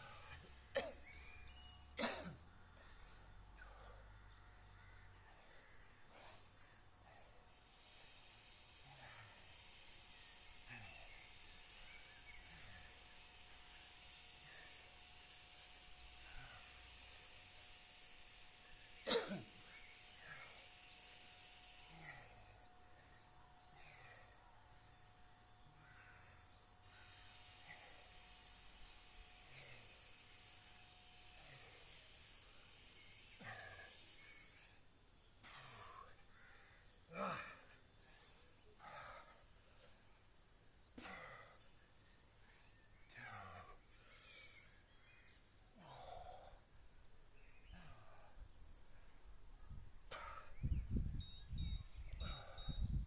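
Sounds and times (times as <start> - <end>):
faint outdoor ambience: 0.0 - 53.0.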